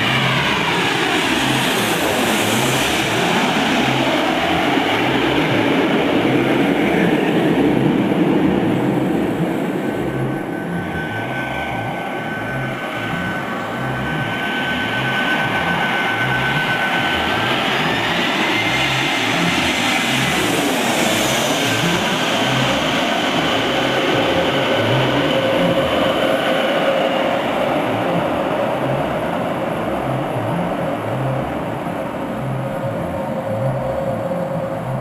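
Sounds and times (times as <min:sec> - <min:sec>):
jet airliner passing overhead: 0:00.0 - 0:35.0
low pulsing: 0:00.0 - 0:35.0.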